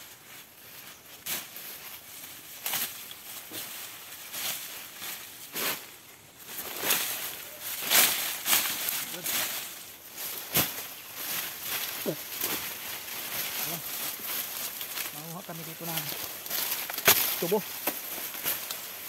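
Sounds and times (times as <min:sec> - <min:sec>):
footsteps crunching through leaves: 0:00.0 - 0:19.0
leaves rustling: 0:00.0 - 0:19.0.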